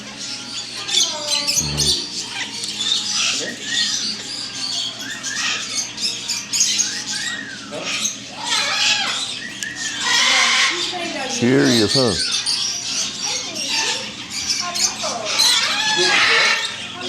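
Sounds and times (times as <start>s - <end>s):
bird chatter: 0.0s - 17.0s
parrots chattering and squawking: 0.0s - 17.0s
rise-and-fall bird calls: 0.1s - 17.0s.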